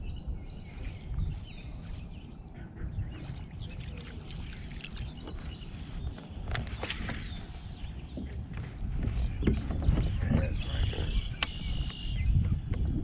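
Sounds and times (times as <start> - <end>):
small birds chirping faintly: 0.0 - 12.8
water and wind rumble: 0.0 - 13.0.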